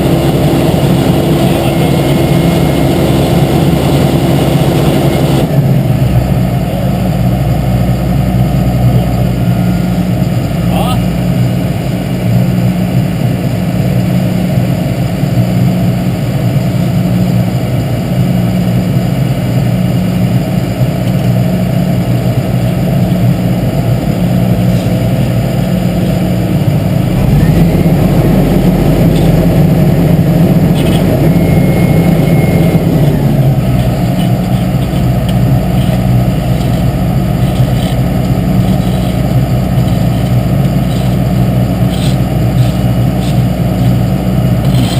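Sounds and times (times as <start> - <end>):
heavy machinery engine running: 0.0 - 44.9.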